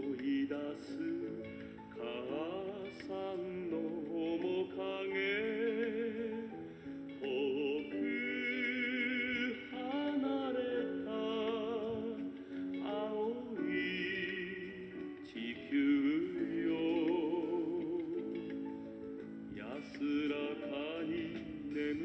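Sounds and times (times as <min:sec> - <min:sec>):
song playing from cassette: 0:00.0 - 0:22.0.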